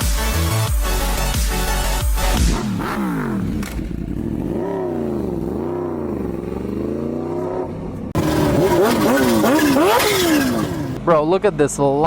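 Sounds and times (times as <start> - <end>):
motorcycle engine revving: 1.2 - 11.1.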